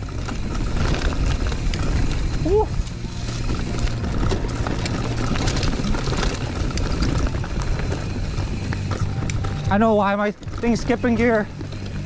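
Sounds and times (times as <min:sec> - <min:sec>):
bike rattling over rocks: 0:00.0 - 0:12.0.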